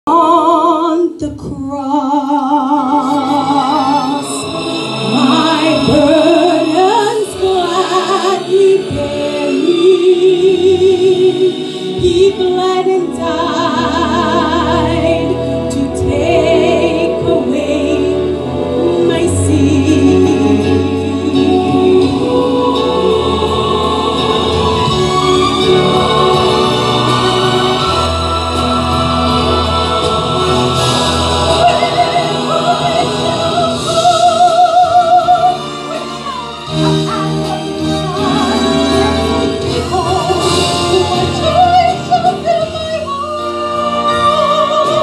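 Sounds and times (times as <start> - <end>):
woman singing into microphone: 0.1 - 4.4, 5.0 - 24.9, 27.7 - 45.0.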